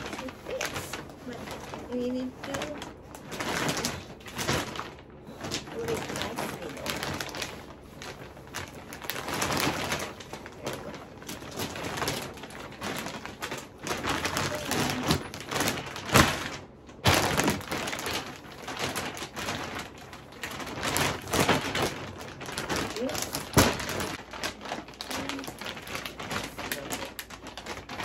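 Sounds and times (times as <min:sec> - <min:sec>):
plastic bag crinkling and rustling: 0:00.0 - 0:28.0.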